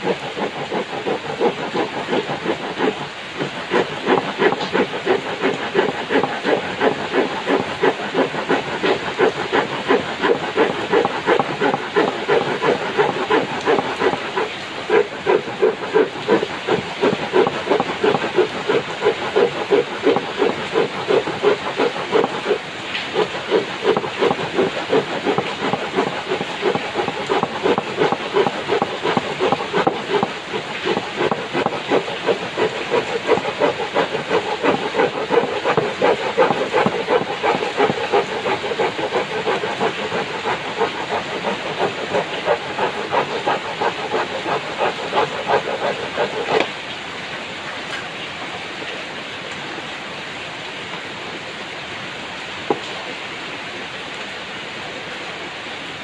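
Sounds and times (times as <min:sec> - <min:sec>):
hand saw cutting wood: 0:00.0 - 0:47.0, 0:52.7 - 0:53.0.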